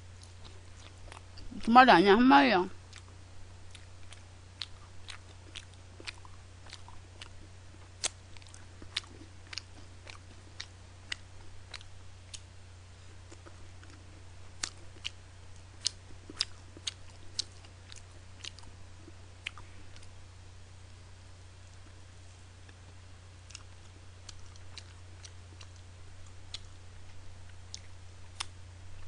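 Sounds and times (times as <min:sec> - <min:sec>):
low electrical hum: 0:00.0 - 0:29.0
person chewing fried chicken: 0:00.1 - 0:01.4, 0:02.9 - 0:20.2, 0:22.6 - 0:29.0.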